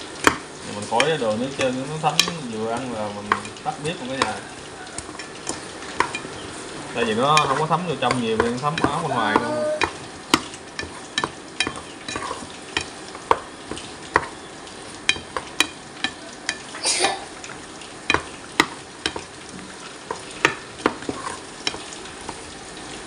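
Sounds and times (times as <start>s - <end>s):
meat sizzling in a pan: 0.0s - 23.0s
wooden utensil knocking on pan: 0.2s - 6.3s, 7.1s - 14.4s, 15.1s - 16.7s, 18.0s - 19.4s, 20.1s - 22.4s
utensil scraping pan: 0.2s - 16.7s, 17.5s - 22.5s.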